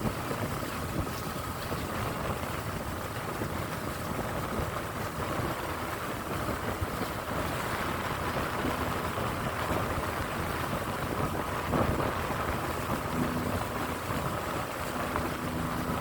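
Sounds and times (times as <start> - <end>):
boat engine droning: 0.0 - 16.0
water noise: 0.0 - 16.0
wind buffeting microphone: 0.0 - 16.0.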